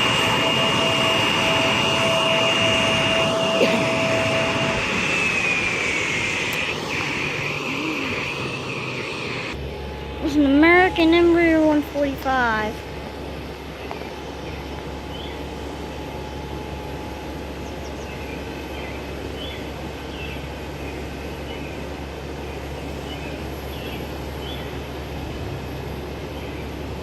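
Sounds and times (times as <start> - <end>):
faint whine: 0.0 - 27.0
jet engines distant rumble: 0.0 - 27.0.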